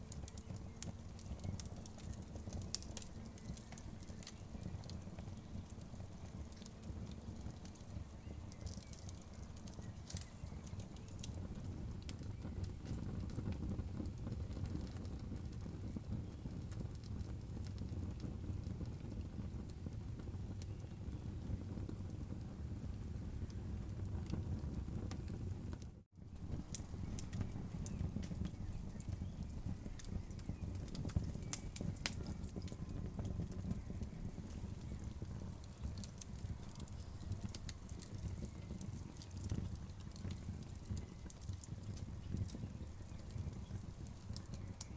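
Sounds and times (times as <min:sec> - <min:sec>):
burning logs snapping and popping: 0:00.0 - 0:22.4, 0:24.2 - 0:44.9
low rumble of flames: 0:00.0 - 0:44.9
wood fire crackling: 0:00.0 - 0:44.9.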